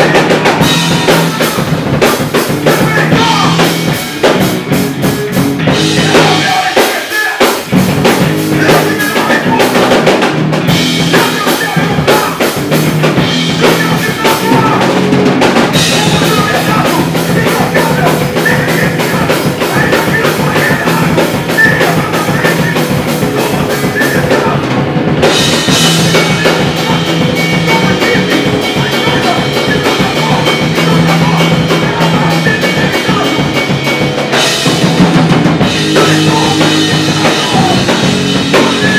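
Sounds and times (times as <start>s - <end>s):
fast kick and snare drum beats: 0.0s - 38.9s
live hardcore band playing: 0.0s - 38.9s.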